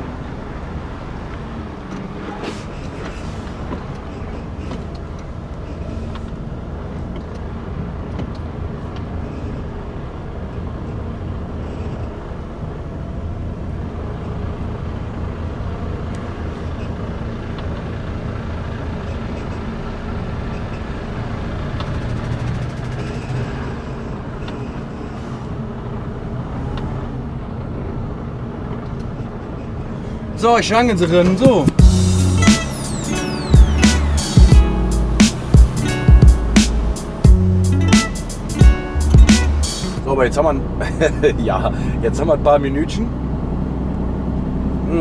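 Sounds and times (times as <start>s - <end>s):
diesel truck engine low hum: 0.0s - 30.4s, 31.4s - 45.0s.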